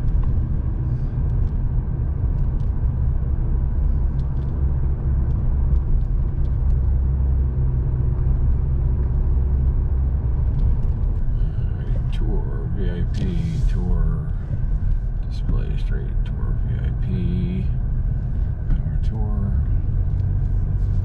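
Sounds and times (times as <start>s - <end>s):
car rumble inside cabin: 0.0s - 21.0s.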